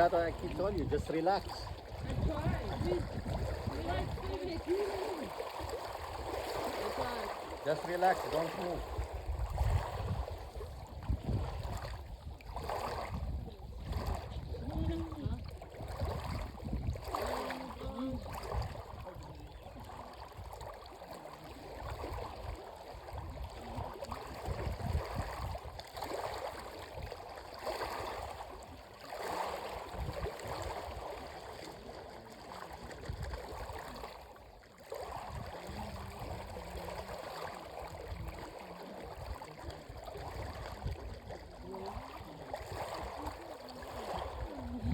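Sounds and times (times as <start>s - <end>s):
wind rumbling on microphone: 0.0s - 7.6s, 8.6s - 20.8s, 21.6s - 28.7s, 29.8s - 31.9s, 32.8s - 34.2s, 35.0s - 37.2s, 37.8s - 44.9s
water lapping and splashing: 0.0s - 44.9s.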